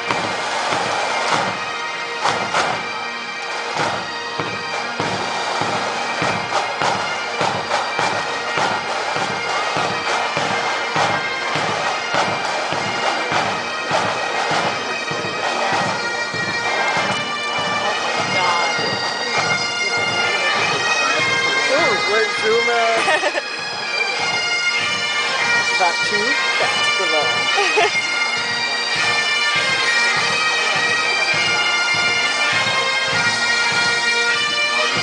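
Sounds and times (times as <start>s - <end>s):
bagpipes playing melody: 0.0s - 35.0s
marching drums: 0.0s - 35.0s.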